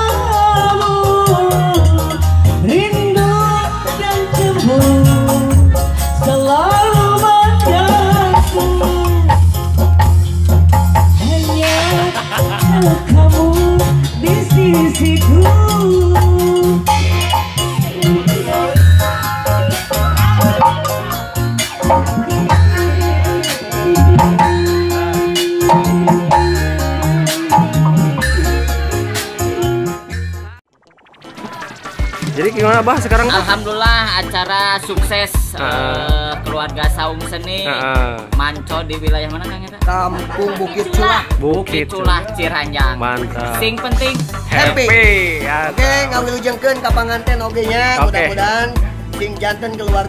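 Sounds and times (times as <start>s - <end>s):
drum kit with cymbals: 0.0s - 30.5s, 31.4s - 50.0s
heavy bass line: 0.0s - 34.4s, 41.0s - 49.4s
sliding lead melody: 0.0s - 36.5s, 37.1s - 50.0s
live band music: 0.0s - 50.0s.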